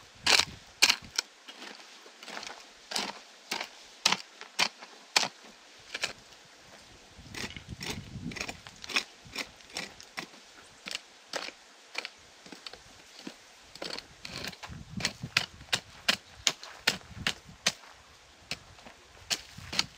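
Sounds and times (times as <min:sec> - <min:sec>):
earth scraping and crumbling: 0:00.0 - 0:19.9
hoe striking hard soil: 0:00.2 - 0:06.2, 0:07.3 - 0:17.8, 0:19.2 - 0:19.9.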